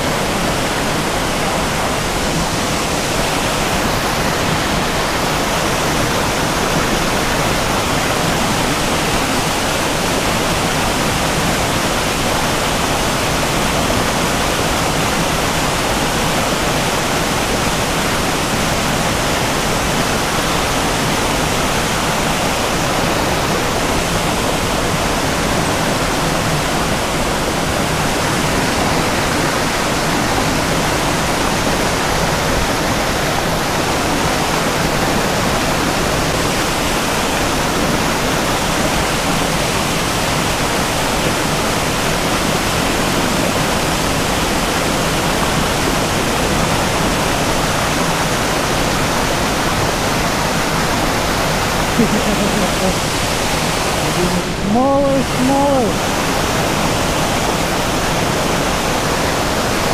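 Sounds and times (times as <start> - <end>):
creek water rushing over boulders: 0.0 - 59.9.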